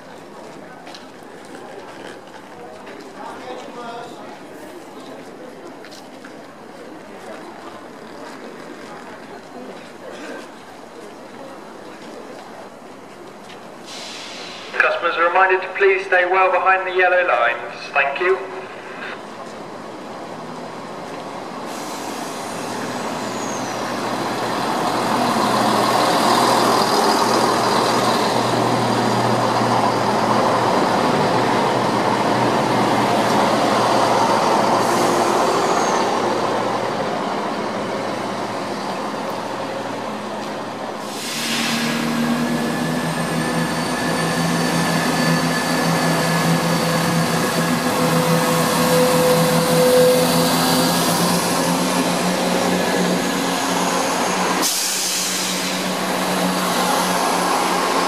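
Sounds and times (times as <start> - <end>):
diesel train rumbling: 0.0 - 58.0.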